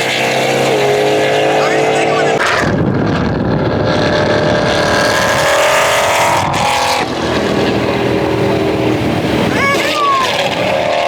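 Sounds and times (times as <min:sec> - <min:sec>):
car engines revving high: 0:00.0 - 0:11.0.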